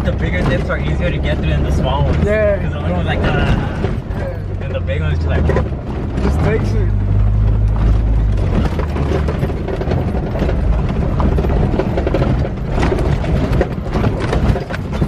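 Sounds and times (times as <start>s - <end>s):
engine rumbling: 0.0s - 15.0s
vehicle body rattling: 0.0s - 15.0s.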